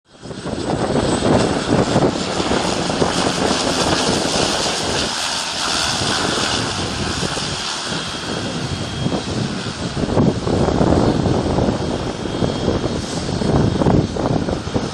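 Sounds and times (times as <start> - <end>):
airplane engines roaring: 0.0 - 14.9.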